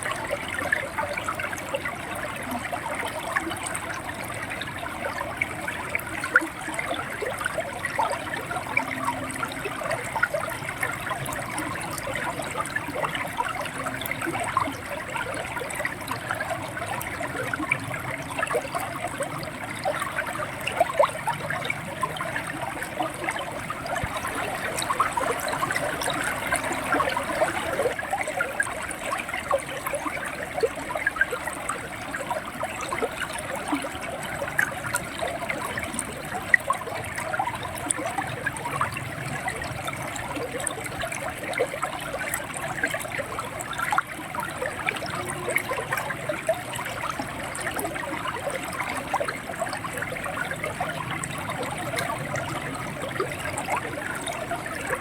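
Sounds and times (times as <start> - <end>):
river water gurgling over rocks: 0.0 - 55.0.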